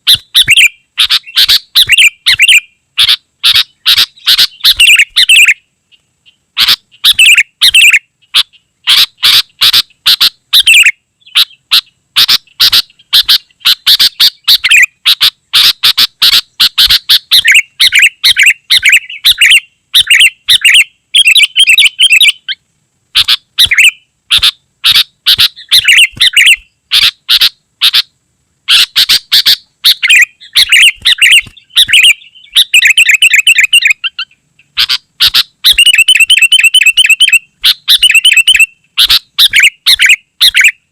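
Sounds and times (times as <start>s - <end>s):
bulbul chirping: 0.0s - 5.6s, 6.2s - 22.6s, 23.2s - 28.1s, 28.7s - 40.8s.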